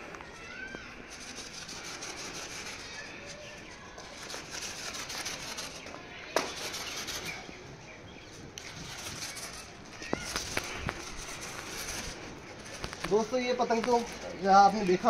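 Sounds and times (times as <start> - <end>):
rustling rubbing noise: 0.0 - 15.0.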